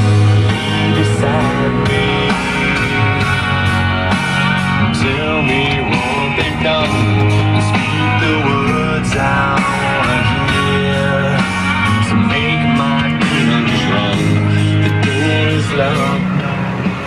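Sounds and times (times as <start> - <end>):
rock song on car radio: 0.0 - 17.0.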